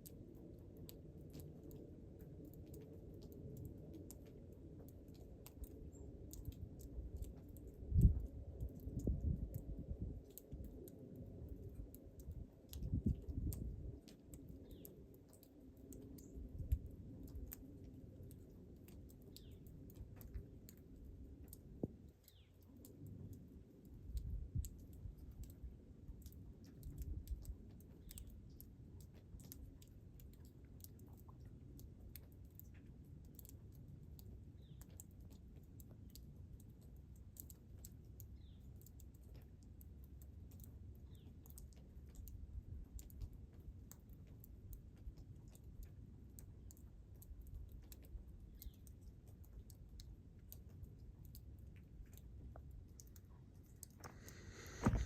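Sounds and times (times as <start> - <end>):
faint low rumble: 0.0 - 55.0.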